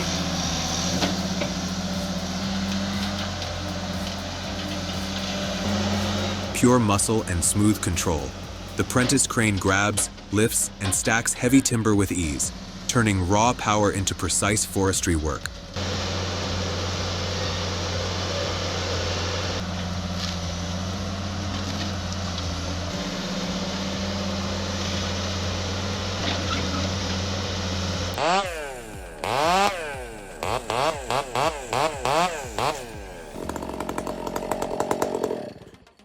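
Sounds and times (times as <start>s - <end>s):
chainsaw revving: 0.0s - 36.0s
low engine drone: 0.0s - 36.0s.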